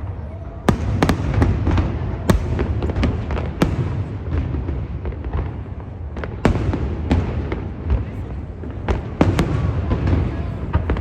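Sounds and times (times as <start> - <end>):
fireworks bangs: 0.0 - 11.0
fireworks crackles: 0.8 - 11.0.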